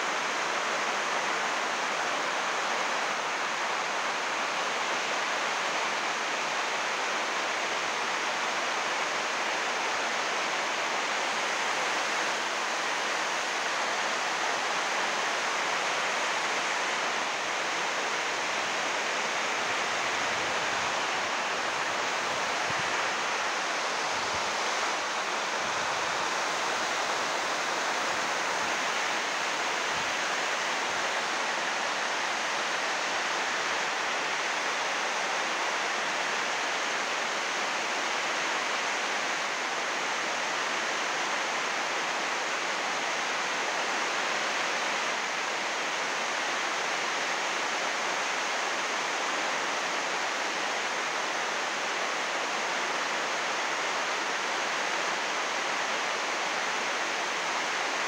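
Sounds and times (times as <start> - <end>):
heavy rain on plastic sheeting: 0.0 - 58.0.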